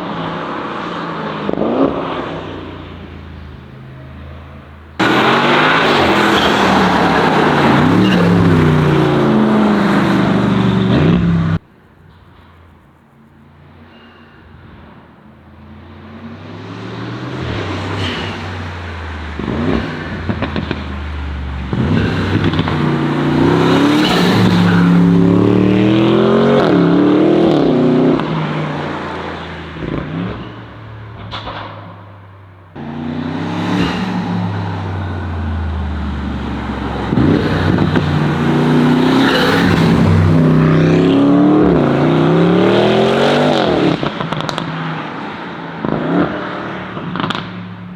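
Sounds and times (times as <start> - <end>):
car engine accelerating through gears: 0.0 - 47.9.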